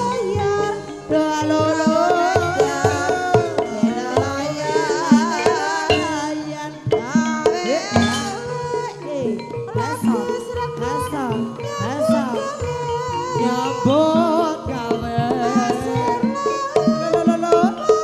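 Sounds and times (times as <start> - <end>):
hand drum strokes: 0.0 - 18.0
held metallophone tones: 0.0 - 18.0
high wavering melody: 0.0 - 18.0.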